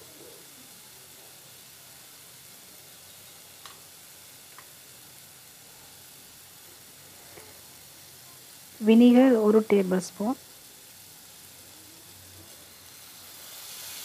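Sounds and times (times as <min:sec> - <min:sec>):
masala sizzling in a pot: 0:00.0 - 0:14.0
small frying pops: 0:00.0 - 0:14.0.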